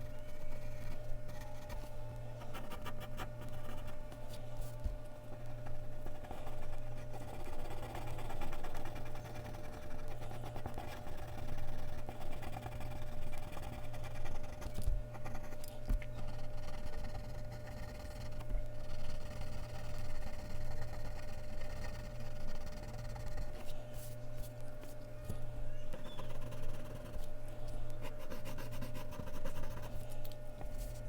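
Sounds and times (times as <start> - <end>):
low electrical hum: 0.0 - 31.0
pencil scratching on paper: 0.3 - 4.0, 5.6 - 15.6, 16.2 - 24.5, 26.0 - 27.3, 28.0 - 30.0.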